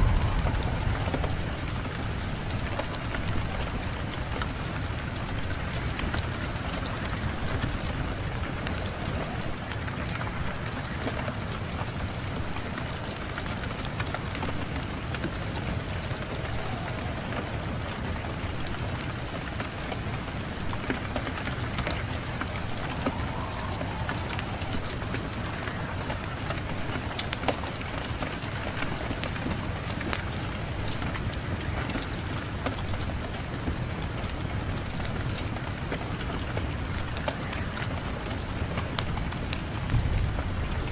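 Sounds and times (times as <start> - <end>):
fire crackling and popping: 0.0 - 40.9
low rumble of wind: 0.0 - 40.9.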